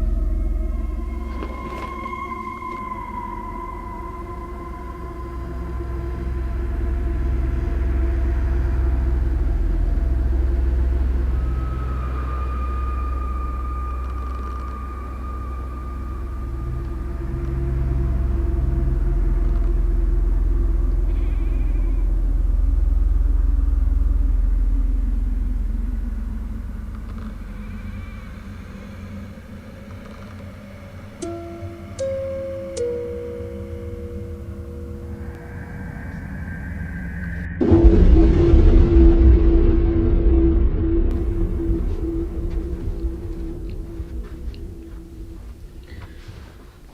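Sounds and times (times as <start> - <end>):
deep steady rumble: 0.0 - 46.9
sustained tones: 0.0 - 46.9.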